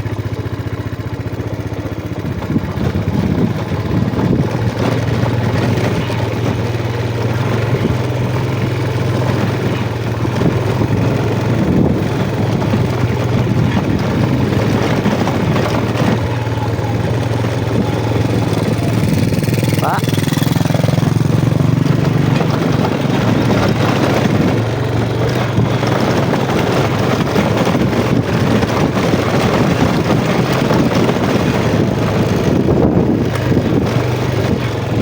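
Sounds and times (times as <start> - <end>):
motorcycle engine at low revs: 0.0 - 35.0
knocks and rattles: 1.7 - 35.0.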